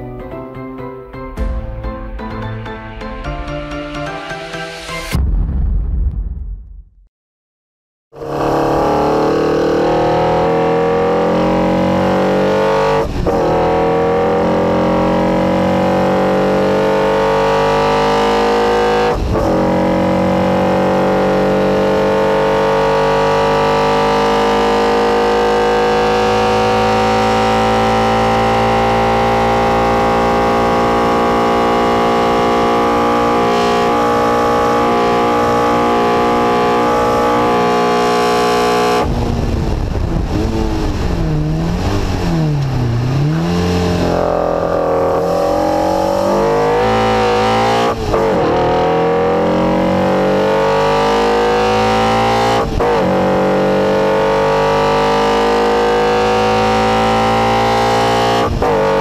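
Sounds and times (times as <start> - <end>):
car engine at full throttle: 8.1 - 59.0.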